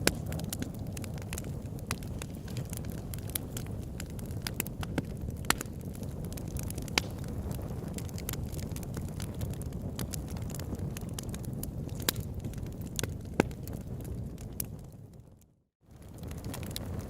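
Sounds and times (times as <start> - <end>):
burning wood popping: 0.0 - 15.2, 15.9 - 17.0
campfire crackling: 0.0 - 17.0
low rumble of flames: 0.0 - 17.0.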